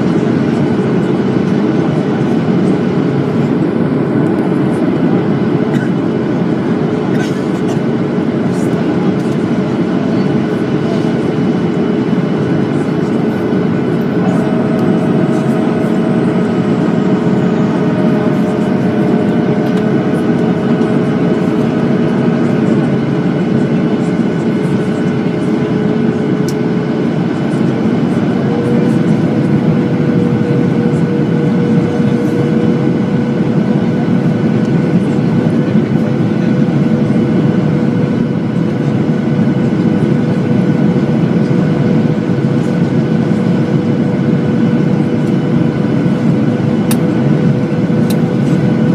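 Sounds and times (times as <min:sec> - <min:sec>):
airliner engines and airflow rushing: 0:00.0 - 0:48.9.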